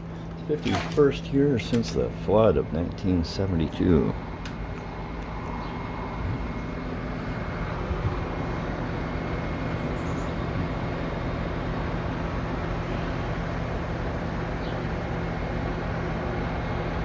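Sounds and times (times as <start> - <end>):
faint constant hum: 0.0 - 17.0
low rumble of vehicle noise: 0.0 - 17.0.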